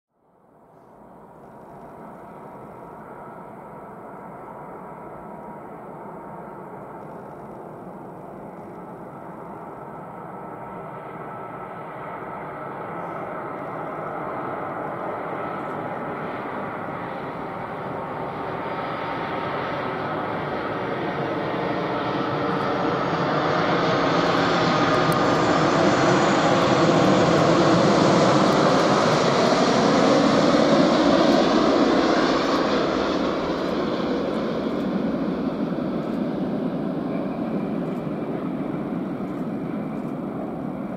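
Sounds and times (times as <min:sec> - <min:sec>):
jet engines whining: 0:01.6 - 0:40.9.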